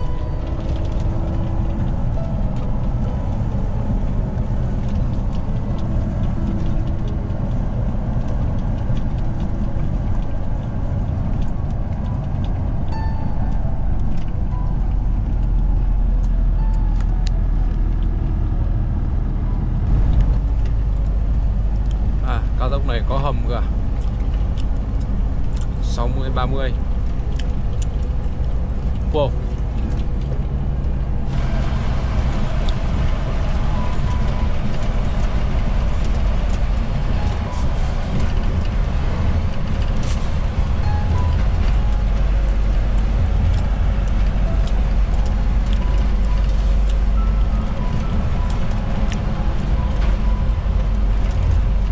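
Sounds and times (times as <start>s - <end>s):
truck engine and road rumble: 0.0s - 51.9s.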